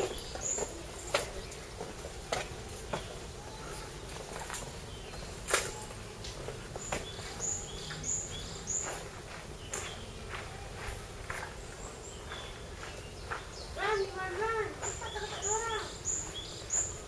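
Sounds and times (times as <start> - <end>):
outdoor ambience: 0.0 - 17.0
small bird chirping: 0.0 - 17.0.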